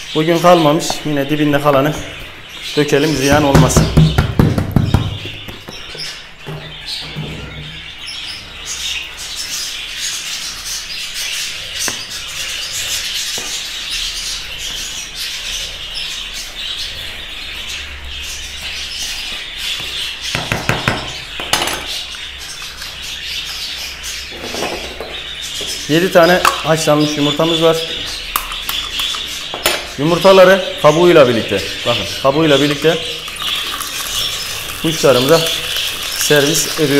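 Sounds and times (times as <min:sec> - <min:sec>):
budgerigars chattering and chirping: 0:00.0 - 0:36.9.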